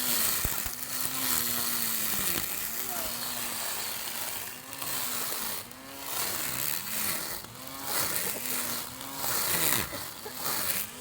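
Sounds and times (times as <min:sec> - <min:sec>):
lawn mower motor surging: 0:00.0 - 0:11.0.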